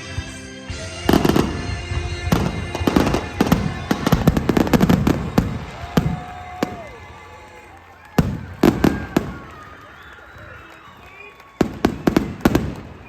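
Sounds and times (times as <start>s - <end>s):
fireworks bangs and crackles: 0.2s - 13.0s.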